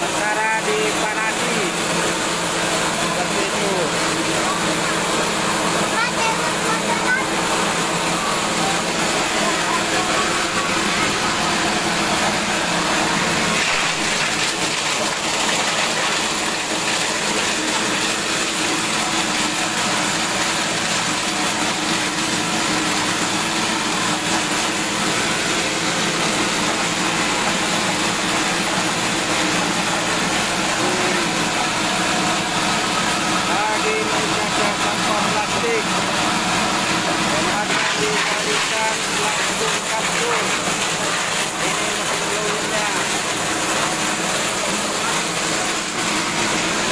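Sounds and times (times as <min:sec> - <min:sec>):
shredder machine running: 0:00.0 - 0:46.9.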